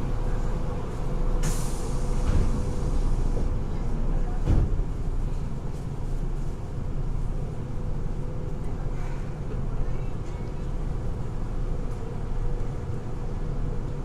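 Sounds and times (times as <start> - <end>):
train rumbling inside car: 0.0 - 14.0.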